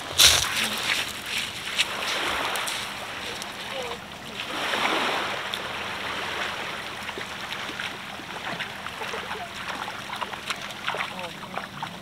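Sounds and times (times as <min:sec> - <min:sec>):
seawater lapping among stones: 0:00.0 - 0:12.0
small ticks and light splashes: 0:00.2 - 0:04.6, 0:05.3 - 0:12.0.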